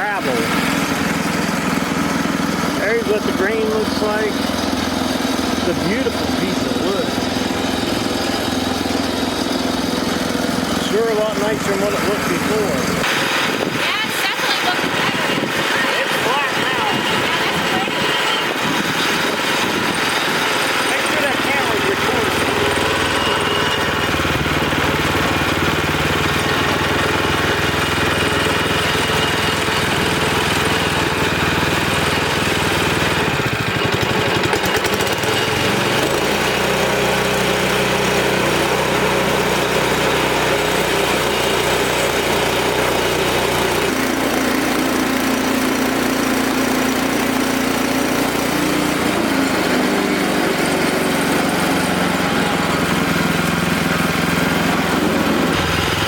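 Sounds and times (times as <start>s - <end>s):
band sawmill engine running: 0.0s - 56.0s.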